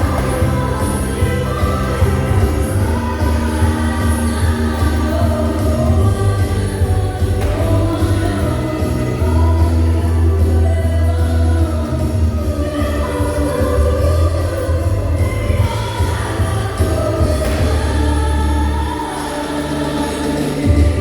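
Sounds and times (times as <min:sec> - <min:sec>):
christmas-style song with singing: 0:00.0 - 0:21.0
heavy bass: 0:00.0 - 0:21.0.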